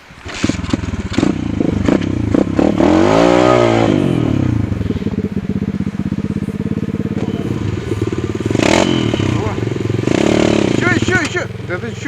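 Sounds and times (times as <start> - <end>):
pit bike engine revving: 0.1 - 12.0.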